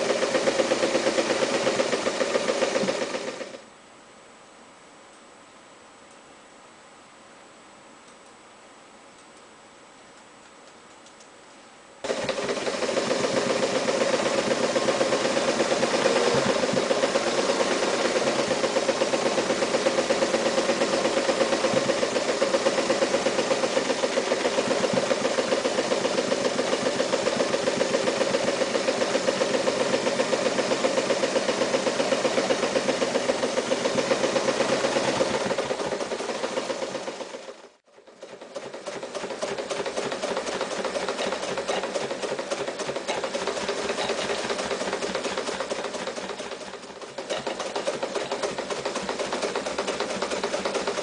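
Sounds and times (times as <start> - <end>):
sewing machine running: 0.0 - 3.7, 12.0 - 51.0.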